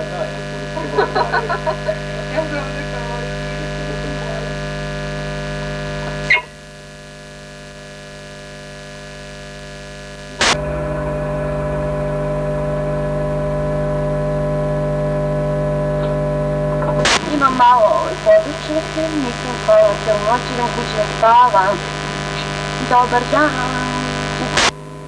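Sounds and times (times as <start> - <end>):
electrical buzzing hum: 0.0 - 25.0.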